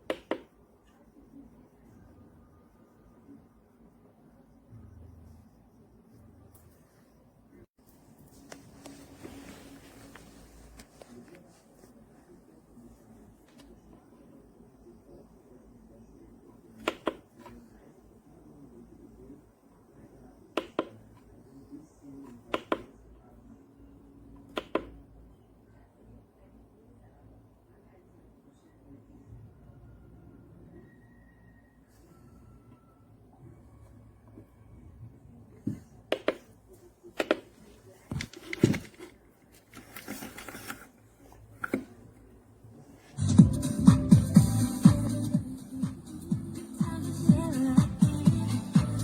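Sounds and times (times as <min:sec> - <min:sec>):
faint low background noise: 0:00.0 - 0:49.0.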